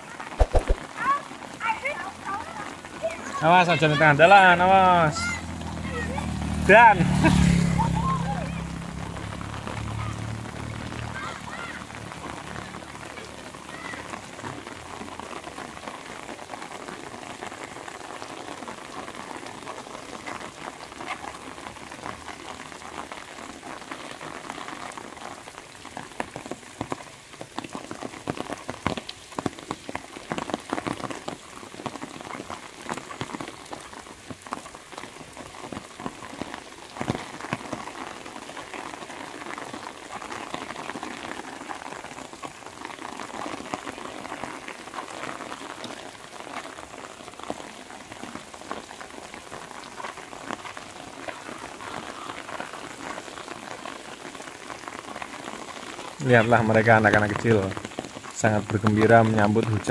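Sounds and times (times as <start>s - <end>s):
rain pattering on road and foliage: 0.0s - 59.9s.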